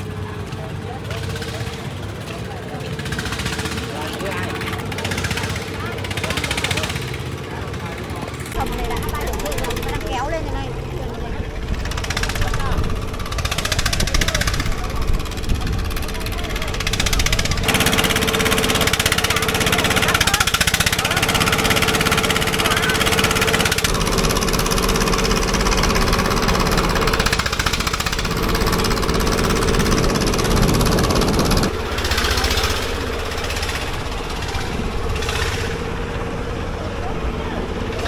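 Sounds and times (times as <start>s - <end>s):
diesel engine knocking: 0.0s - 38.0s.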